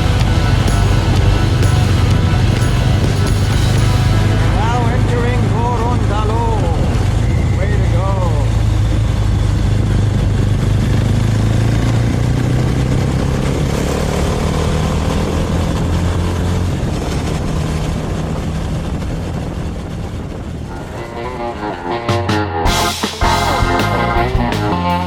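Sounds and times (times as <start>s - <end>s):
motorcycle engine cruising: 0.0s - 25.0s
wind noise: 0.0s - 25.0s.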